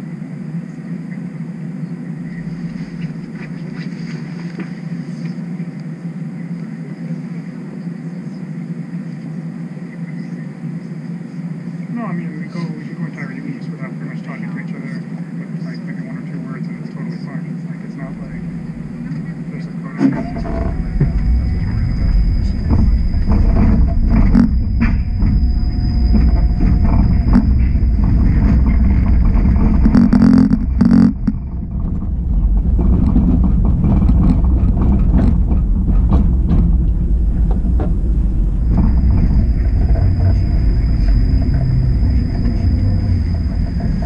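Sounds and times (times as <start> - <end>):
low rumble of traffic: 0.0 - 44.0.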